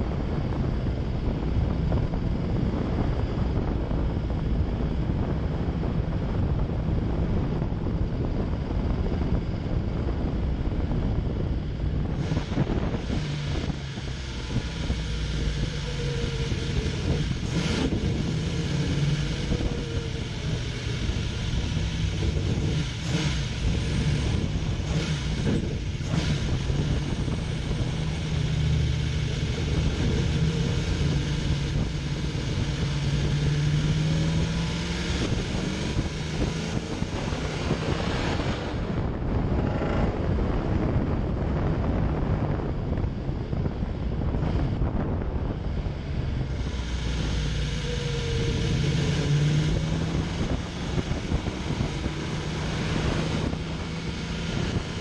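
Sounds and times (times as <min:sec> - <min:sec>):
car engine cruising: 0:00.0 - 0:55.0
wind noise on microphone: 0:00.0 - 0:55.0.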